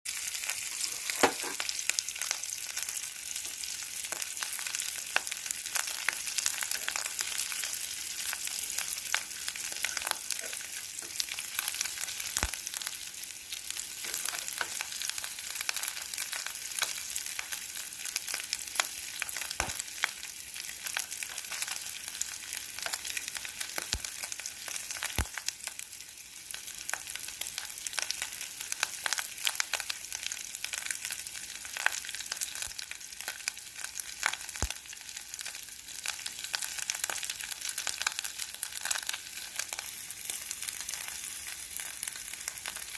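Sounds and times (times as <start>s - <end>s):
fish frying in hot oil: 0.1s - 42.9s.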